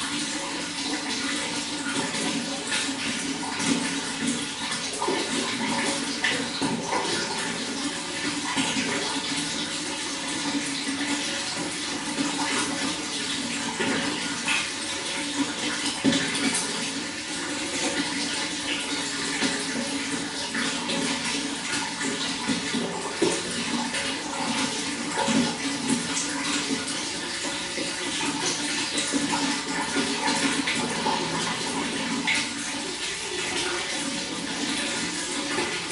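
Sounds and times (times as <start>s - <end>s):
running water flowing: 0.0s - 35.9s.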